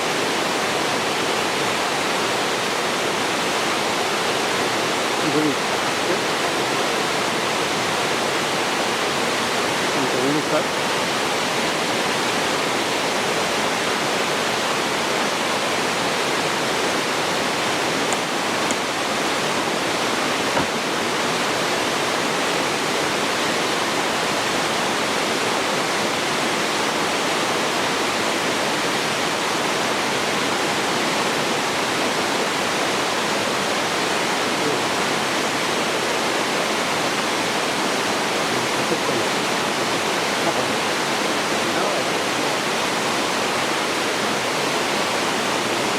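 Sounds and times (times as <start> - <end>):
waterfall splashing into pool: 0.0 - 45.9.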